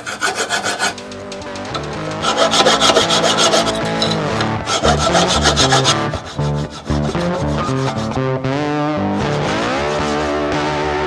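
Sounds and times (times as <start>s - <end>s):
file rasping on steel: 0.0s - 8.4s, 9.0s - 10.6s
background music: 0.0s - 11.0s.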